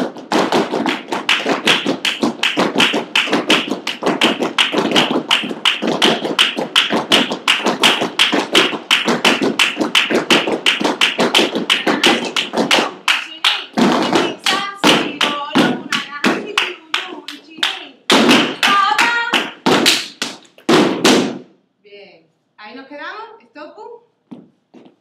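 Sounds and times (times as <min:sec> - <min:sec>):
flamenco shoes striking floor: 0:00.0 - 0:21.5, 0:24.3 - 0:25.0.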